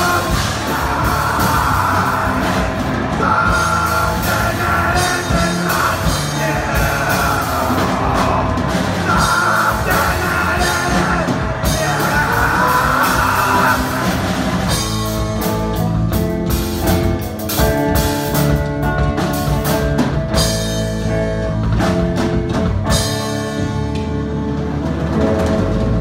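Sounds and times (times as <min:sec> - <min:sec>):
drums and cymbals: 0:00.0 - 0:26.0
electric guitars: 0:00.0 - 0:26.0.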